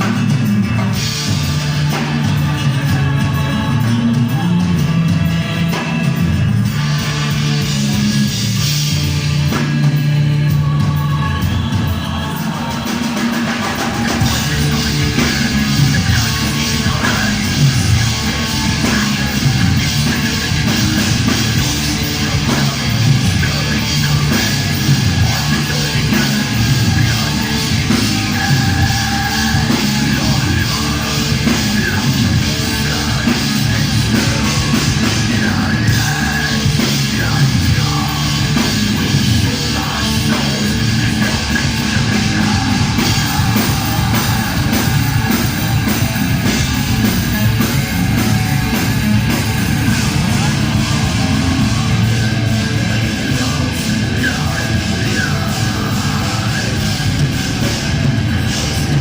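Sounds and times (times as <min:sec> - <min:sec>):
heavy metal band playing live: 0:00.0 - 0:59.0
sustained low guitar notes: 0:00.0 - 0:59.0.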